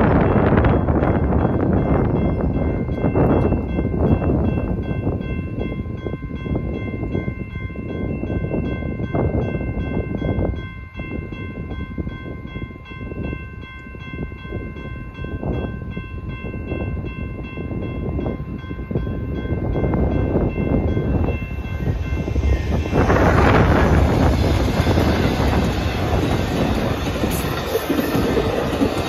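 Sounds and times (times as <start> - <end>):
approaching train: 0.0 - 29.0
crossing warning bell ringing: 0.0 - 29.0
low wind-like rumbling: 0.0 - 29.0.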